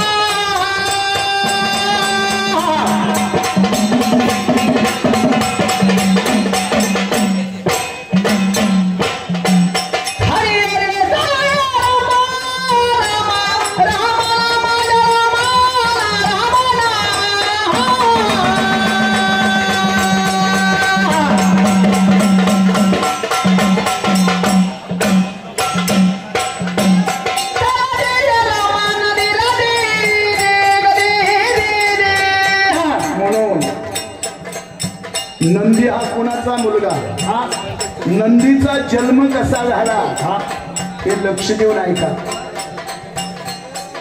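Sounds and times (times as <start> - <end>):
instrumental accompaniment: 0.0 - 44.0.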